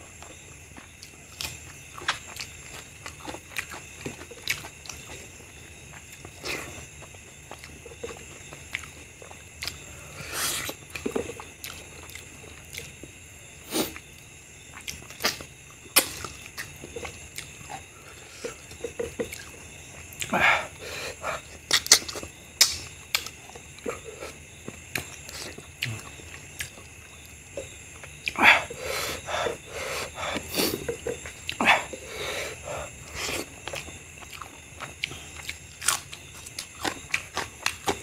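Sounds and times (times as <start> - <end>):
chewing and mouth smacks: 0.2 - 13.2, 13.8 - 20.3, 21.4 - 28.4, 29.2 - 38.0.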